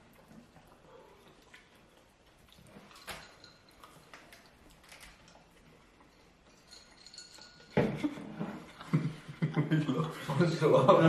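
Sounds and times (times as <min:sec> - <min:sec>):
clicks and taps of people eating: 0:00.0 - 0:10.3.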